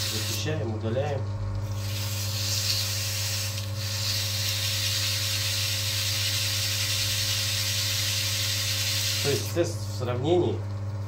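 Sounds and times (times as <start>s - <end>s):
electric motor humming: 0.0s - 0.8s, 1.4s - 9.6s.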